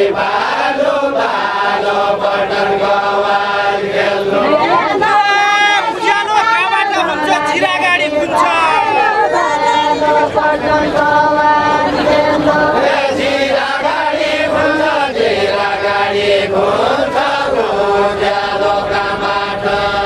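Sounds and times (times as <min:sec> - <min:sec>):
voices chanting unaccompanied: 0:00.0 - 0:20.0.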